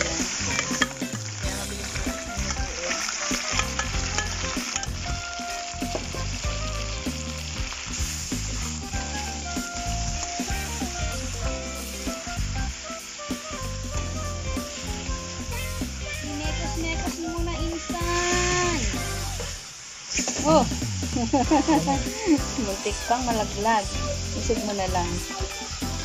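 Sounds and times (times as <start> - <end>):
meat sizzling in hot oil: 0.0 - 26.0.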